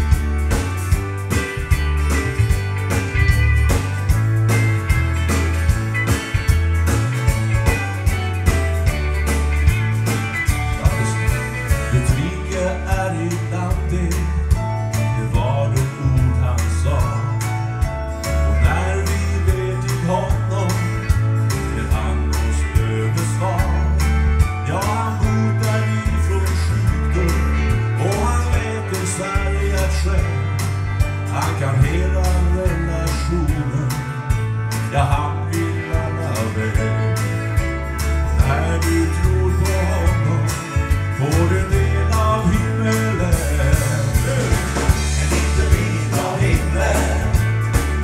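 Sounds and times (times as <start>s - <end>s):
bass line: 0.0s - 48.0s
country gospel music: 0.0s - 48.0s
guitar: 0.0s - 48.0s.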